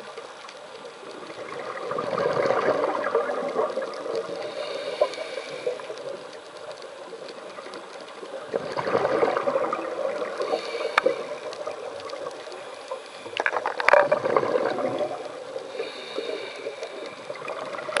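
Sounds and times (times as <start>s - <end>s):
exhaled bubbles gurgling underwater: 0.0s - 18.0s.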